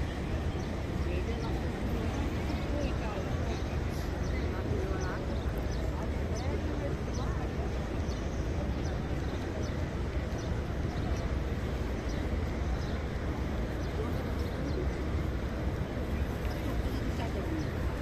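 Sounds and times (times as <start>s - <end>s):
crowd murmur: 0.0s - 18.0s.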